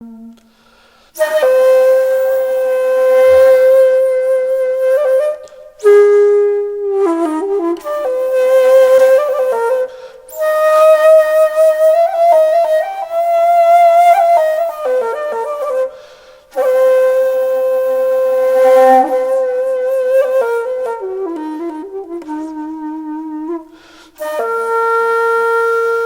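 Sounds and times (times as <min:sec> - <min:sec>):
solo flute-like wind instrument: 0:00.0 - 0:26.0.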